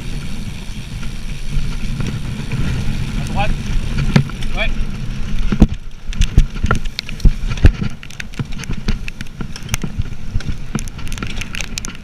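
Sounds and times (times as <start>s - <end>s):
bike rattling and knocking: 0.0s - 12.0s
wind and tyres rumbling: 0.0s - 12.0s.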